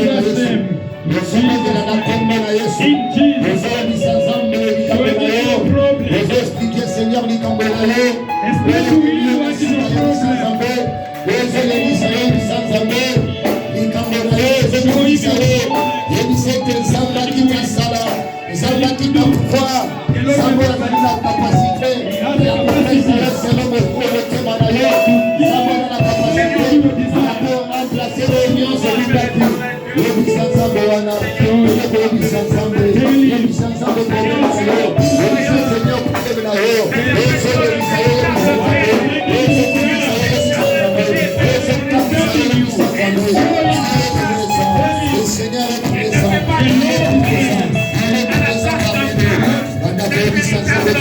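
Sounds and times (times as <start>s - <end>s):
worship music with singing: 0.0s - 51.0s.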